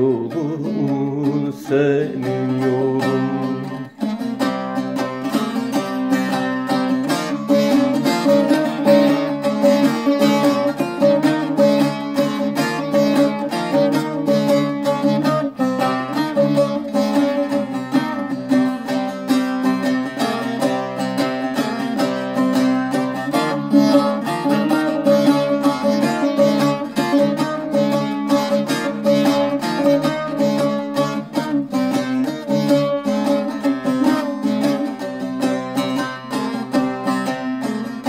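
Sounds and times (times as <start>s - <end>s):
long-necked lute strumming: 0.0s - 38.0s.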